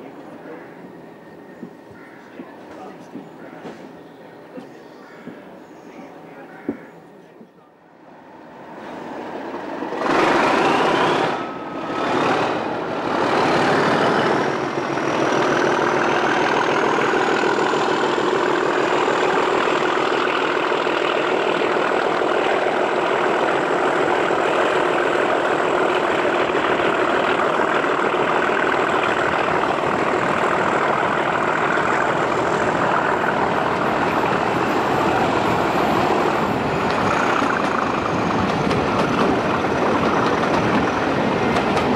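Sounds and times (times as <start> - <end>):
diesel locomotive engine working hard: 0.0 - 41.9.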